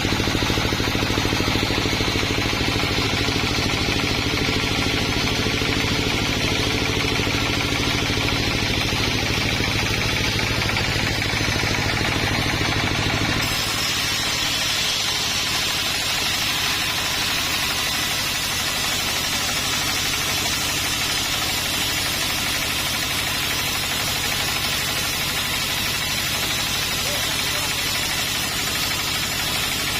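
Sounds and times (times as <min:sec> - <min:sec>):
engine running with fast pulse: 0:00.0 - 0:29.9.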